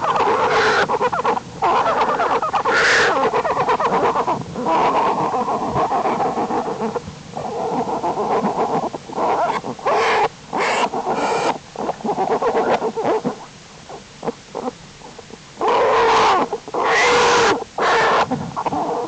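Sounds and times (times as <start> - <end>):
bear cubs humming: 0.0 - 19.0.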